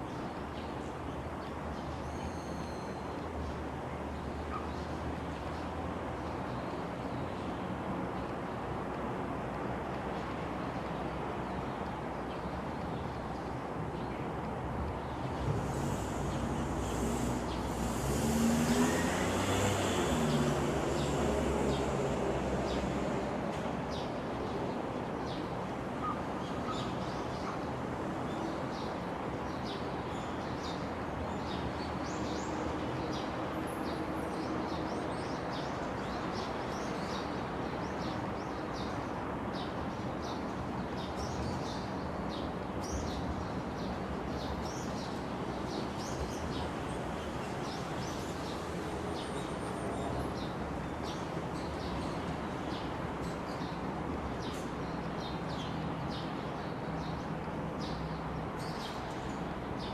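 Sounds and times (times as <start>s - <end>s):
steady background noise: 0.0s - 59.9s.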